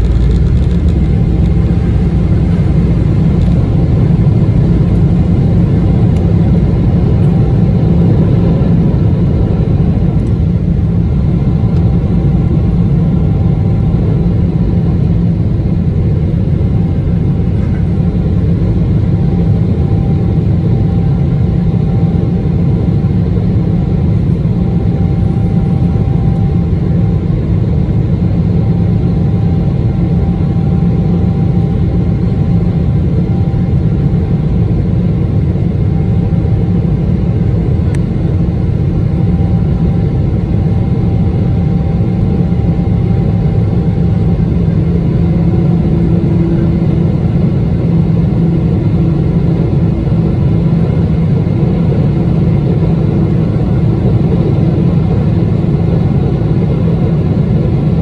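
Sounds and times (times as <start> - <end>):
faint jet engine whine: 0.0 - 58.0
jet engine rumble: 0.0 - 58.0.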